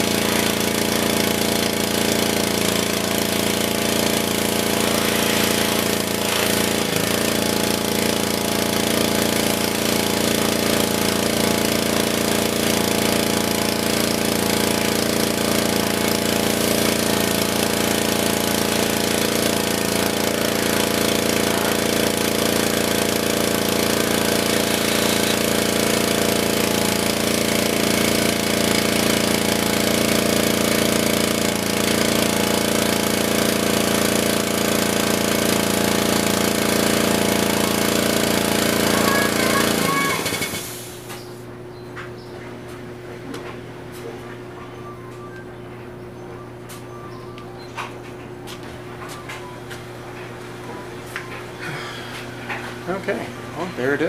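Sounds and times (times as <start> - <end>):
engine running pressure washer pump: 0.0 - 54.0.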